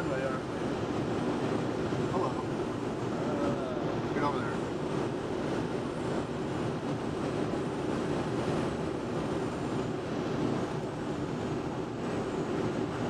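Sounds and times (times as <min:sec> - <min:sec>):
wind rushing past cockpit: 0:00.0 - 0:13.0.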